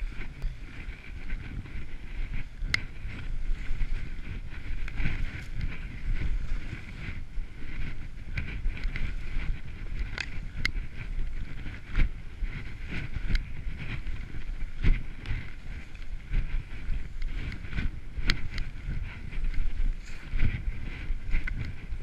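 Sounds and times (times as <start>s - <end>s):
skis running through powder: 0.0s - 22.0s
wind on microphone: 0.0s - 22.0s.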